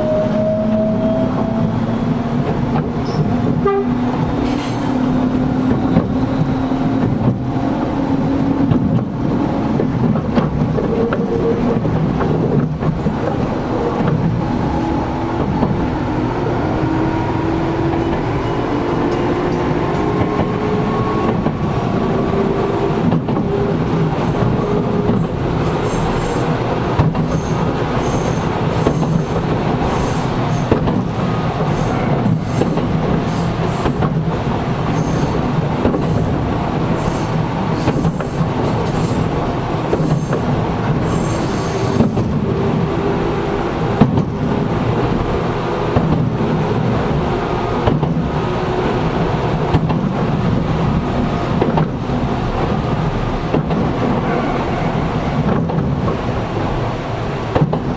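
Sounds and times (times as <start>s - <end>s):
train motor and gear whine: 0.0s - 57.9s
wheels clacking over rail joints: 0.3s - 57.9s.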